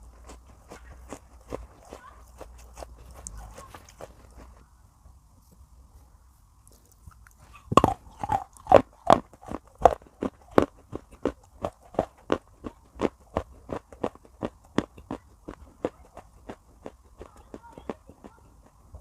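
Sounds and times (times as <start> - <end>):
crunchy chewing: 0.0 - 4.7, 6.6 - 19.0.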